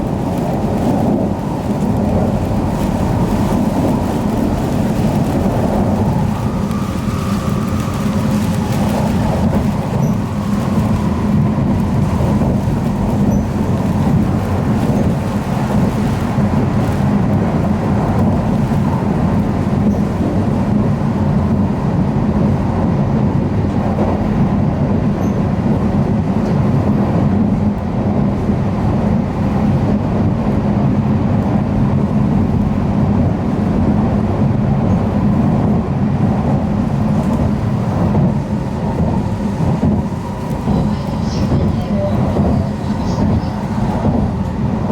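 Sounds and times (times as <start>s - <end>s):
train low rumble from inside: 0.0s - 44.9s.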